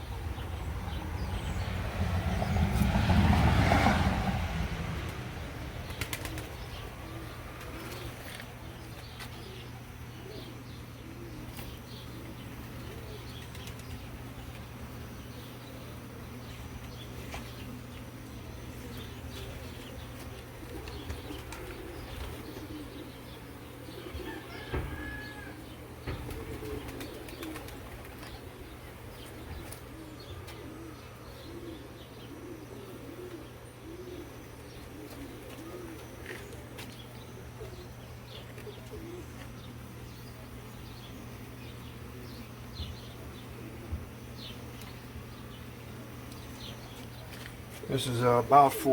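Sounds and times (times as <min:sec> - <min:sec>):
honeybees buzzing: 0:00.0 - 0:48.9.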